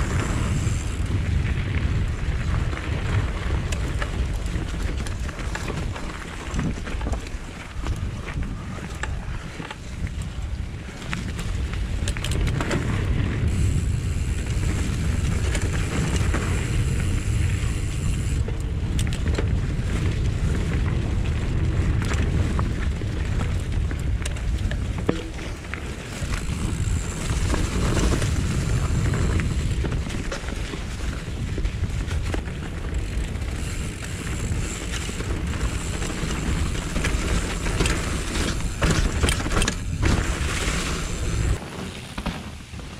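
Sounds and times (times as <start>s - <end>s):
bike knocks and rattles: 0.0s - 42.9s
wind rumbling on microphone: 0.0s - 42.9s.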